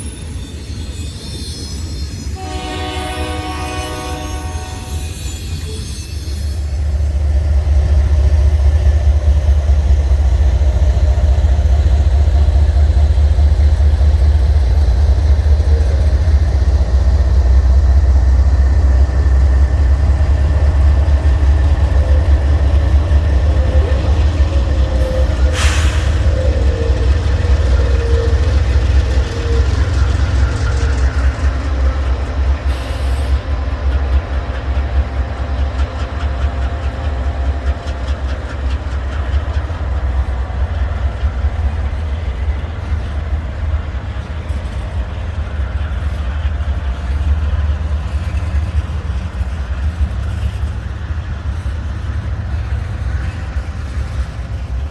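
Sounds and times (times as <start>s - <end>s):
train rumbling past: 0.0s - 54.9s.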